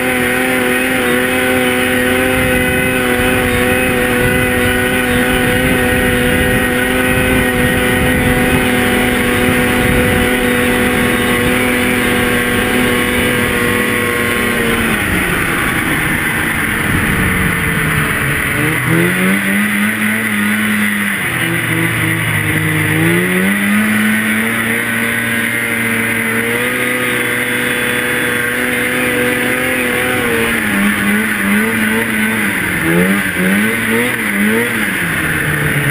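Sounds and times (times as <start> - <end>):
snowmobile engine revving: 0.0 - 35.9.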